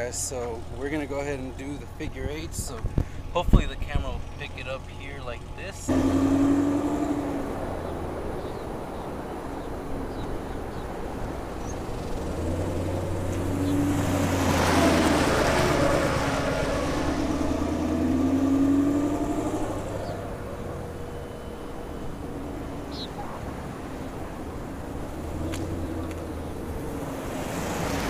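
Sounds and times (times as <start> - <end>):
car engine revving: 4.1 - 28.0.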